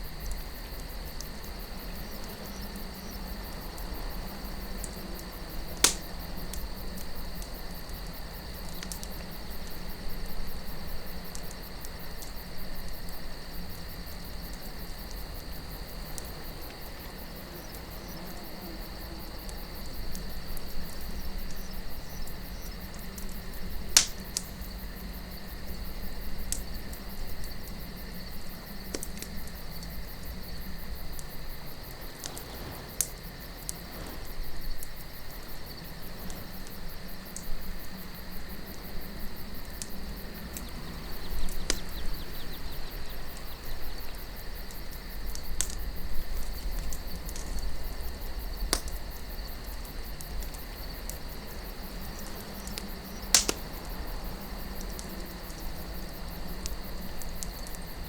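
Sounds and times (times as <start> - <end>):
campfire crackling and popping: 0.0 - 58.0
cricket trill: 0.0 - 58.0.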